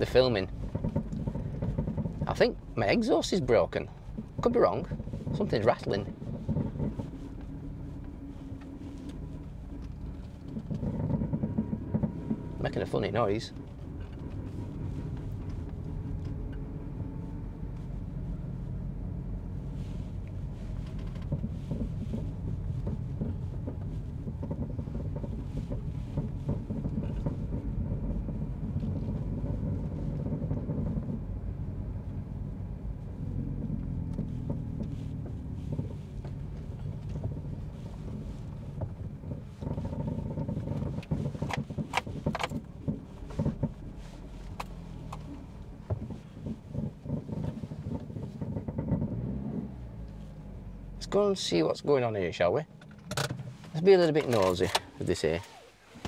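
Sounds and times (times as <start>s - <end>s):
exhaust rattle: 0.0s - 56.0s
vehicle low rumble: 0.0s - 56.0s.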